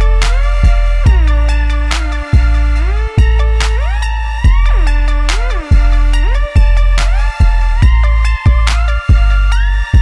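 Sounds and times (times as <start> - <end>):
deep bass note: 0.0 - 10.0.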